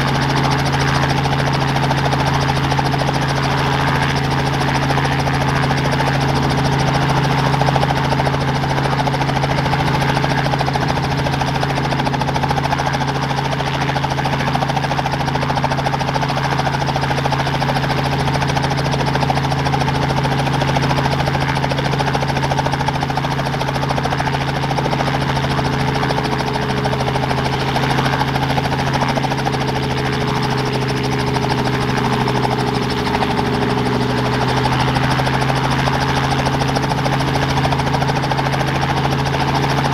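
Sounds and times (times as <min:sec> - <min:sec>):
helicopter engine and rotor humming: 0:00.0 - 0:39.9.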